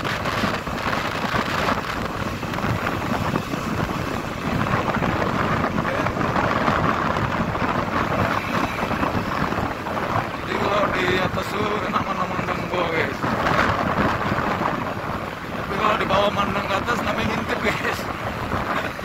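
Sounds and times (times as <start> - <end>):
road noise: 0.0 - 19.0
vehicle engine: 0.0 - 19.0
wind on microphone: 0.0 - 19.0.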